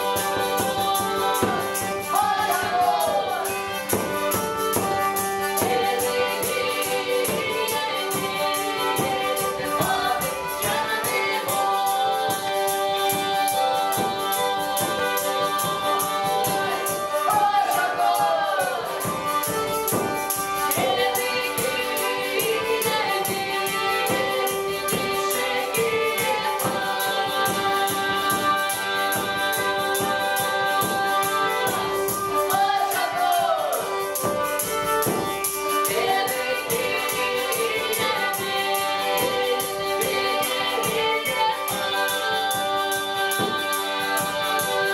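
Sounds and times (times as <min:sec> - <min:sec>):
instrumental accompaniment: 0:00.0 - 0:44.9
steady percussion beat: 0:00.0 - 0:44.9
voices singing: 0:00.0 - 0:44.9.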